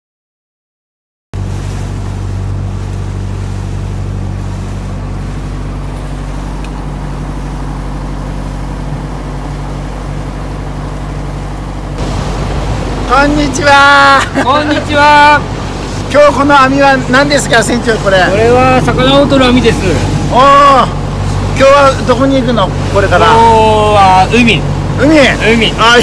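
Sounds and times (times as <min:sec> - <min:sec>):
boat engine running steadily: 0:01.4 - 0:26.0
water rushing past hull: 0:01.4 - 0:26.0
wind: 0:01.4 - 0:26.0.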